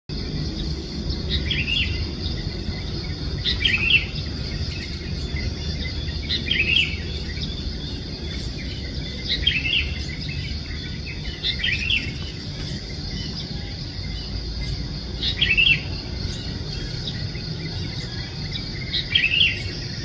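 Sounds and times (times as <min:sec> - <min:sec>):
bulbul calling: 0:00.6 - 0:20.0.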